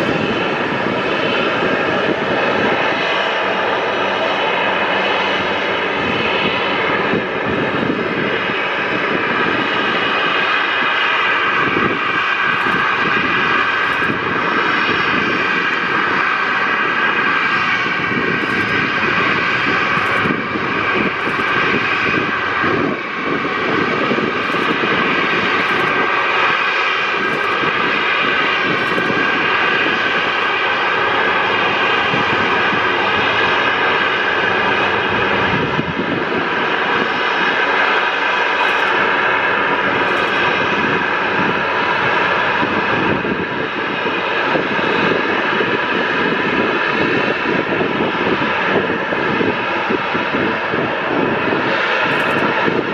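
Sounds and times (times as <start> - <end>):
jet engines whining and rushing: 0.0 - 52.9.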